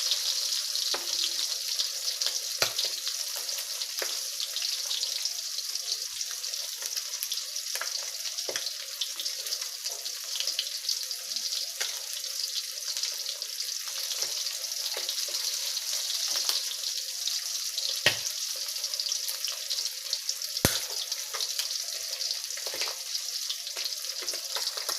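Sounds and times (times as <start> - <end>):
fish sizzling in hot oil: 0.0 - 24.9.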